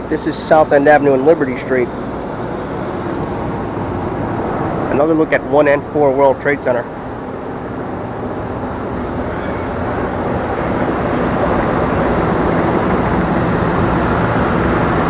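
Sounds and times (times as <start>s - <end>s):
city traffic: 0.0s - 15.0s
helicopter drone overhead: 0.0s - 15.0s.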